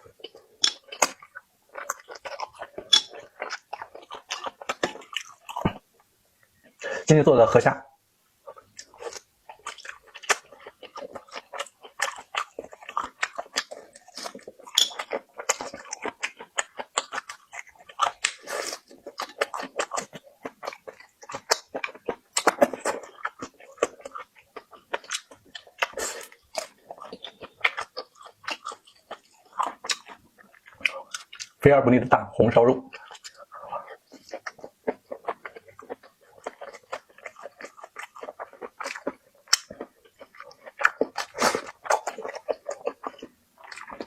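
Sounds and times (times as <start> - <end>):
chewing and crunching shrimp: 0.0 - 6.0, 8.4 - 31.6, 32.5 - 44.0.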